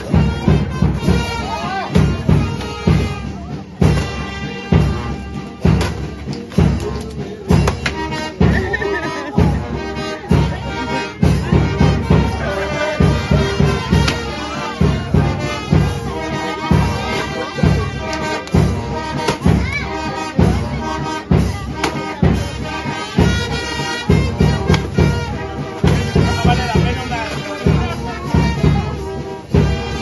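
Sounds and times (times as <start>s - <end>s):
brass band music: 0.0s - 30.0s.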